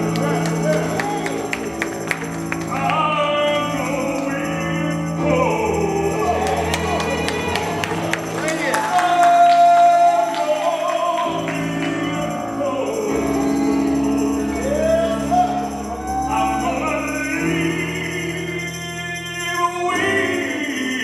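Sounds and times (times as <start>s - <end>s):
congregation singing gospel song: 0.0s - 21.0s
held chords: 0.0s - 21.0s
tambourine: 0.0s - 21.0s.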